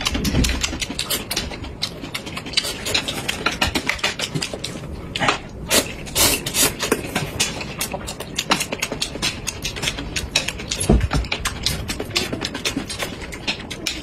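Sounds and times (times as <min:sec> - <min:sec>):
noodles slurped and chewed: 0:00.0 - 0:14.0.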